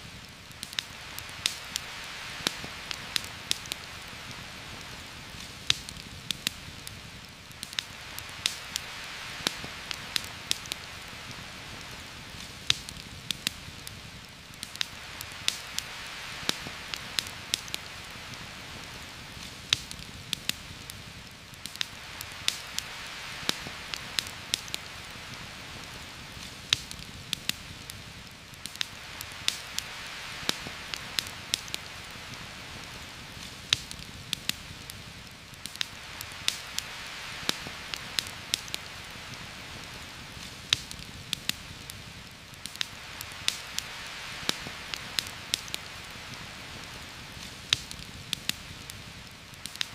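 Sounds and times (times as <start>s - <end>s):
campfire crackling: 0.0s - 49.9s
heavy rain on leaves: 0.0s - 49.9s.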